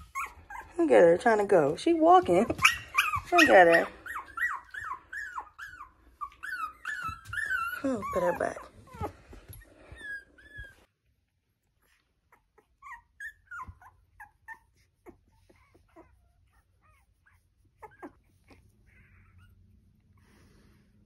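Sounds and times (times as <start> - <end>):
puppies whimpering and squeaking: 0.0 - 20.9.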